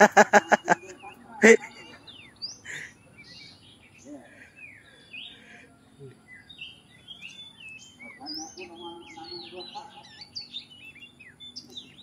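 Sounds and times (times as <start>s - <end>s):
bird whistling and chirping: 0.4s - 12.0s.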